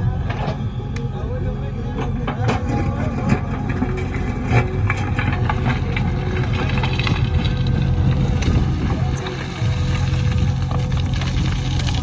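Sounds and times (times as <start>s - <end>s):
diesel machinery engine running: 0.0s - 12.0s.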